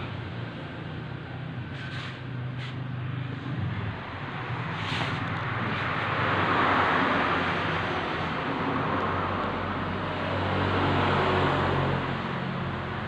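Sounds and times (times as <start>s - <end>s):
passing road traffic: 0.0s - 13.0s.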